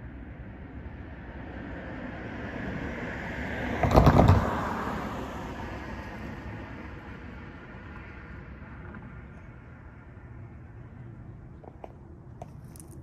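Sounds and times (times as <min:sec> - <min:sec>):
car tyre noise passing: 0:00.4 - 0:13.0.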